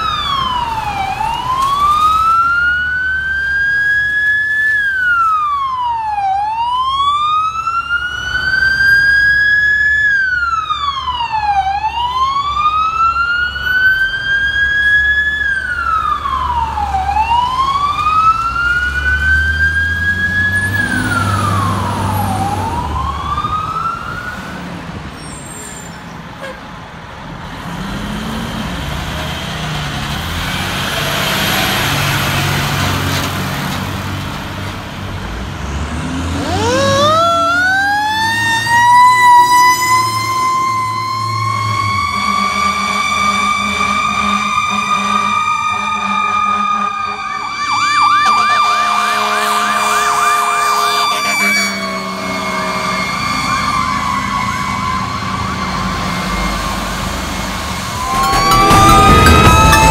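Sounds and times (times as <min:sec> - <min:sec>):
fire truck siren wailing: 0:00.0 - 0:25.0, 0:29.3 - 0:59.9.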